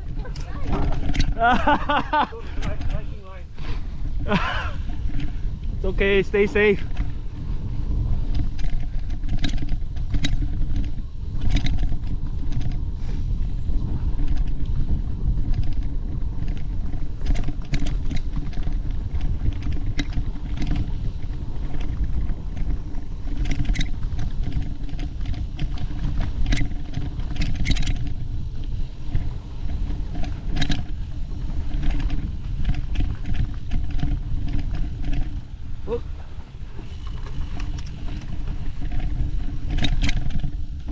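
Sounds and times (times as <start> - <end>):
bike knocks and rattles: 0.0 - 40.9
bike tyre noise: 0.0 - 40.9
wind on microphone: 0.0 - 40.9.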